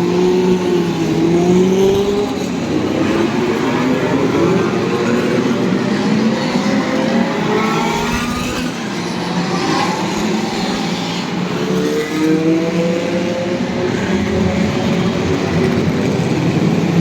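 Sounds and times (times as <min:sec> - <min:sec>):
race car engines accelerating: 0:00.0 - 0:17.0.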